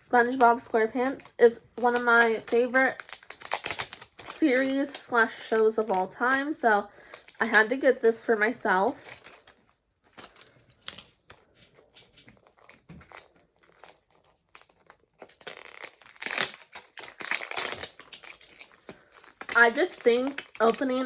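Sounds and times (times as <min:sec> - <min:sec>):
paper crinkling and tearing: 0:00.2 - 0:08.2, 0:08.8 - 0:21.0.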